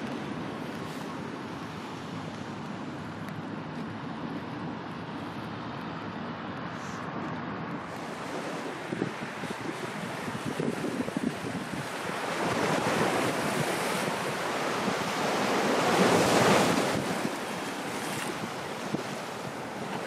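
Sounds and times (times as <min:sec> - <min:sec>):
sea waves: 0:00.0 - 0:20.0
wind on microphone: 0:00.0 - 0:20.0.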